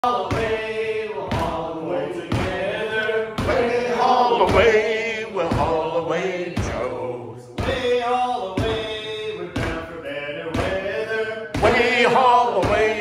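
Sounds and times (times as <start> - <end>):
men singing a cappella: 0.0 - 13.0.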